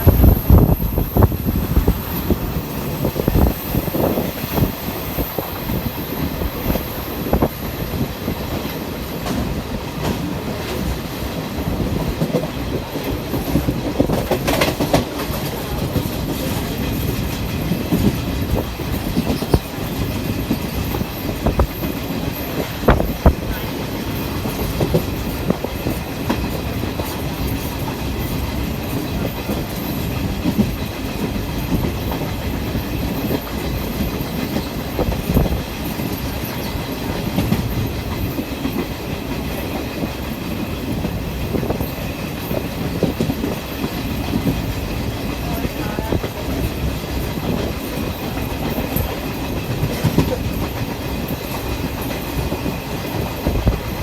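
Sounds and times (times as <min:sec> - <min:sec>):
train rumbling: 0:00.0 - 0:54.0
wheels clattering on rails: 0:00.0 - 0:54.0.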